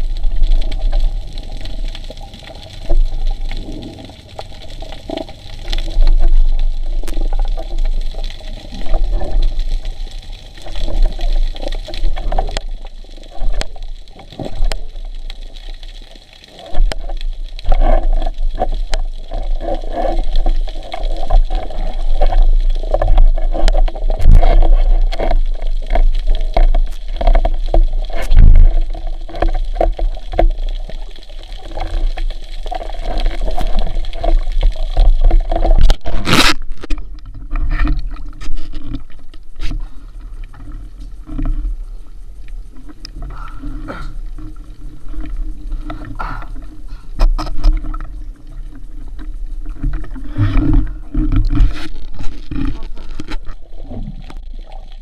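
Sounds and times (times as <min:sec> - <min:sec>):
water rushing and sloshing: 0:00.0 - 0:55.0
clicks and scrapes: 0:00.4 - 0:41.6, 0:47.2 - 0:48.2, 0:49.2 - 0:55.0.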